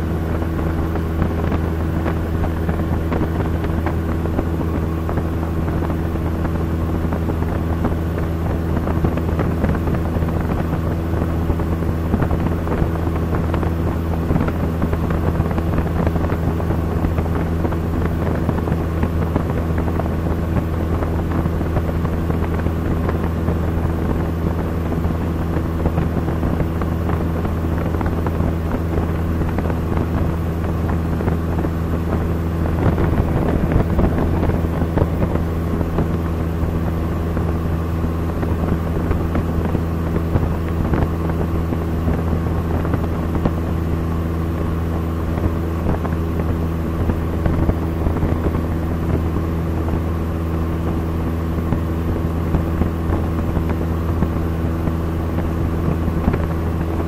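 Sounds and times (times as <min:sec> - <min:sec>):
plane engine droning in cabin: 0:00.0 - 0:57.0.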